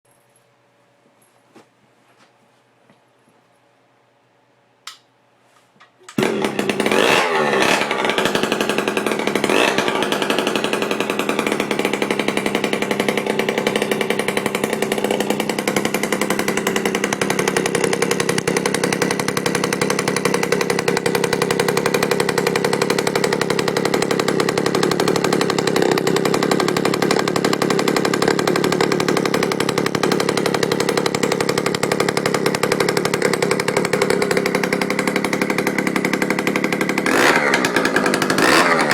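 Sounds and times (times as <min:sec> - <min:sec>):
two-stroke engine revving: 0:06.2 - 0:38.9.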